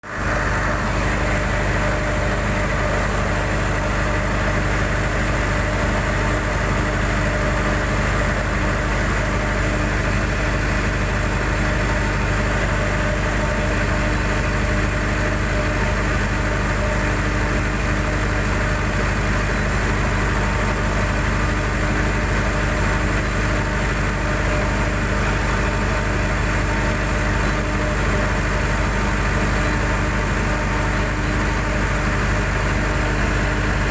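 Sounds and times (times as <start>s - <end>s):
diesel engine running steadily: 0.0s - 33.9s.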